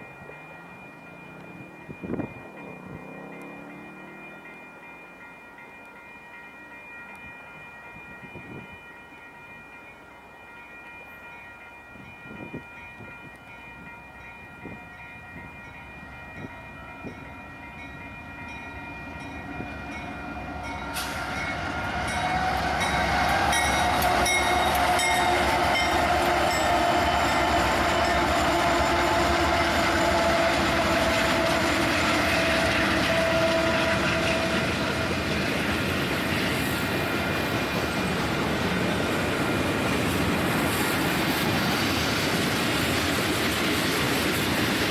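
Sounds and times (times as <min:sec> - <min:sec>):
train rumbling past: 0:00.0 - 0:44.9.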